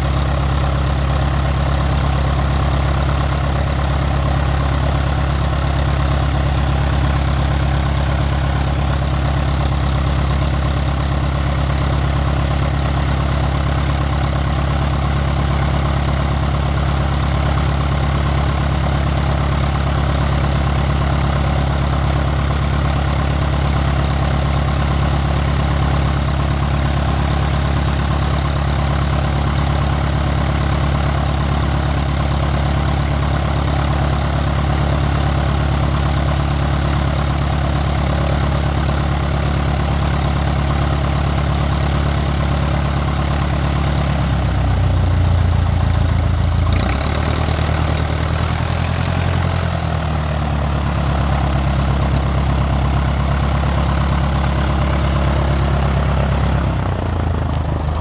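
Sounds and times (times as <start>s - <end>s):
piston aircraft engine idling: 0.0s - 58.0s.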